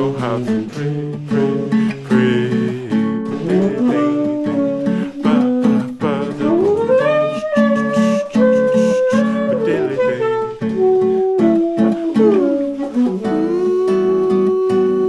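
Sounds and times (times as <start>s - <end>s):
acoustic guitar strumming: 0.0s - 15.0s
tenor saxophone melody: 0.0s - 15.0s.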